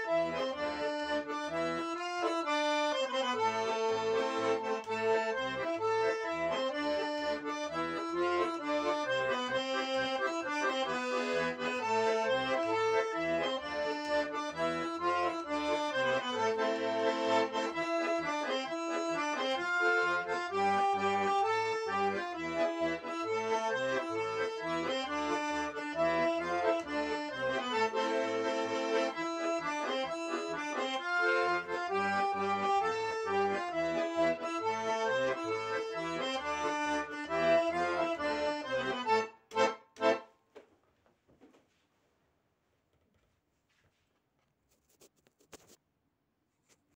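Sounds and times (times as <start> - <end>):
button accordion folk melody: 0.0 - 40.4.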